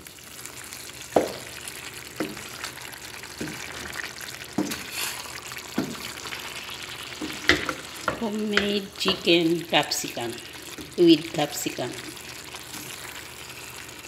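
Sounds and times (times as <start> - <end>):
food sizzling: 0.0 - 14.0.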